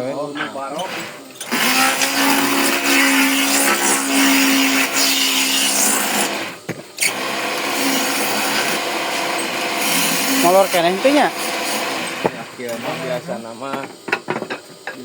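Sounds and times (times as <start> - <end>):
power tool cutting wood: 0.6 - 13.4.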